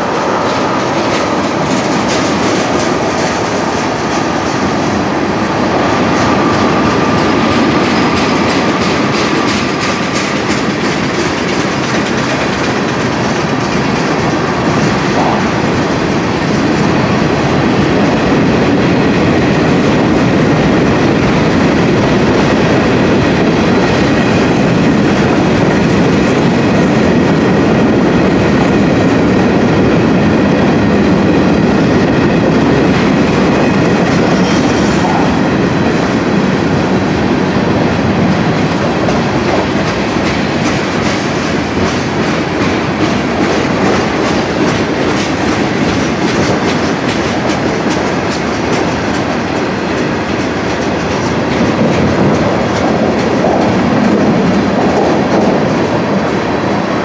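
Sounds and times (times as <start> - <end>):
train wheels rumbling on rails: 0.0 - 57.0
wheel clickety-clack: 0.4 - 5.1, 6.0 - 29.4, 31.9 - 36.2, 38.2 - 56.4.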